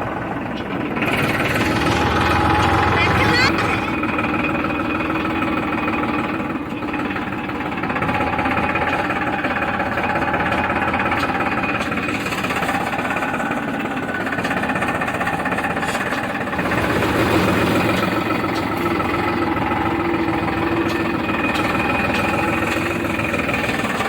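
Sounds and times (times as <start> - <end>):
tractor diesel engine knocking: 0.0 - 24.0.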